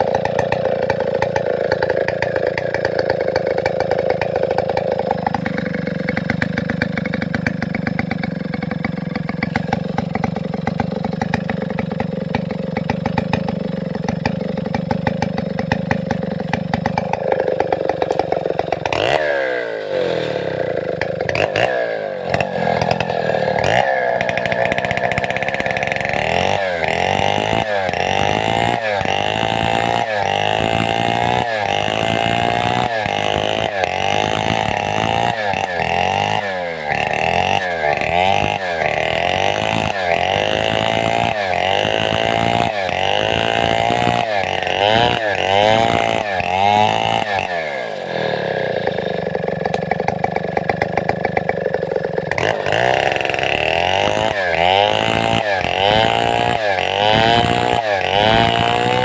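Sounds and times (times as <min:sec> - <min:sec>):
chainsaw cutting a log: 0:00.0 - 0:59.0
chainsaw idling: 0:00.0 - 0:59.0.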